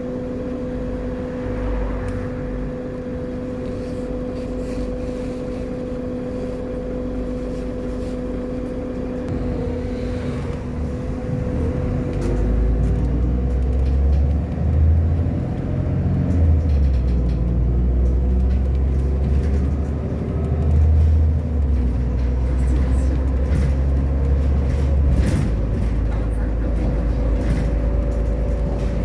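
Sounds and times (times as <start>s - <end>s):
bus diesel engine running: 0.0s - 29.0s
steady engine whine: 0.0s - 29.0s.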